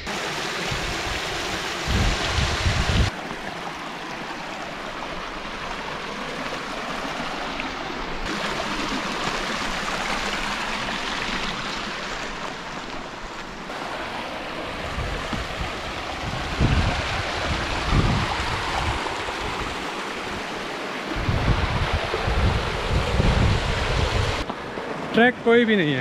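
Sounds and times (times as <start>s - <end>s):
stream splashing over rocks: 0.0s - 25.3s.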